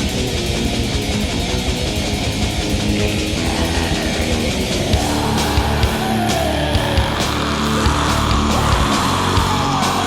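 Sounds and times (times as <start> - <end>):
black metal music: 0.0 - 10.0.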